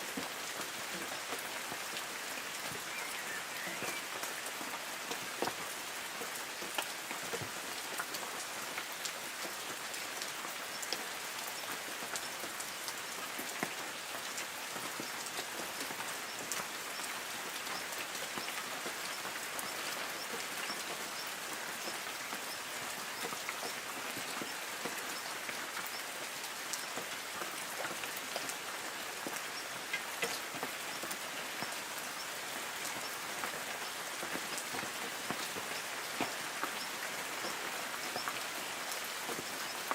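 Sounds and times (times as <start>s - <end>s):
light rain on trees: 0.0s - 39.9s.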